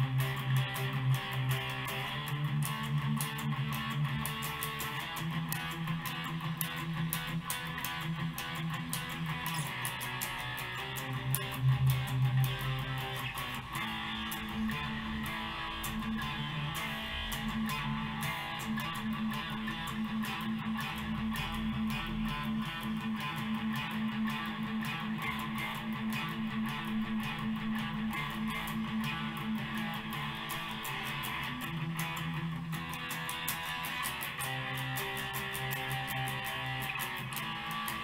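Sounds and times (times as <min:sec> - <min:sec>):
electric guitar fast picking: 0:00.0 - 0:38.0.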